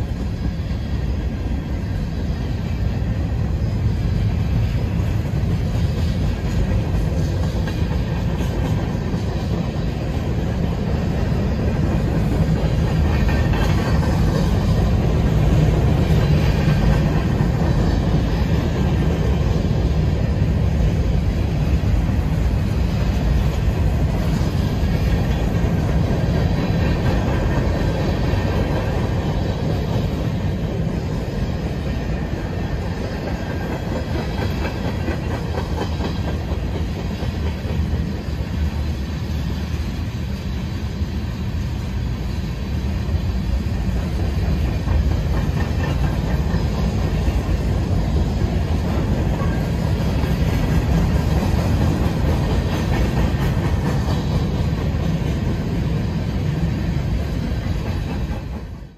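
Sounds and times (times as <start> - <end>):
clickety-clack over rail joints: 0.0 - 58.9
freight train rumbling past: 0.0 - 58.9.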